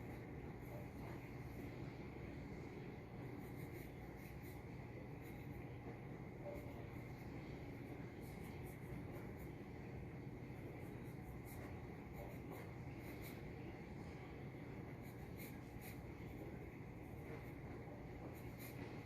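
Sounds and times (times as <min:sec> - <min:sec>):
faint steady hum: 0:00.0 - 0:19.0
pencil scratching on paper: 0:00.0 - 0:19.0.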